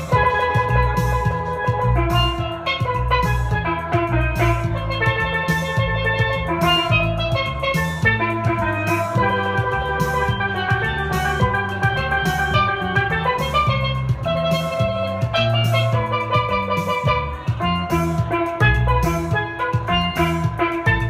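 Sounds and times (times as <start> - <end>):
electric bass line: 0.0 - 21.0
steady beat: 0.0 - 21.0
steel pan melody: 0.0 - 21.0.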